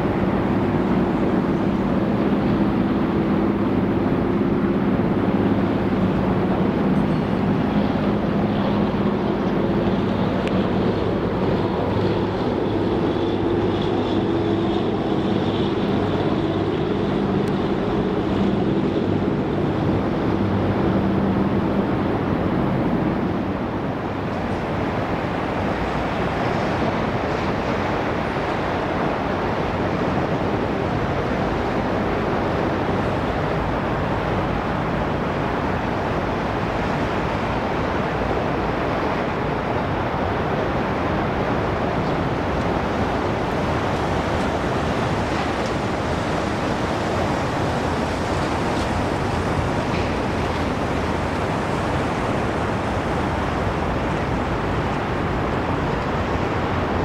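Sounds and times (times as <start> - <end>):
harbour water: 0.0 - 57.0.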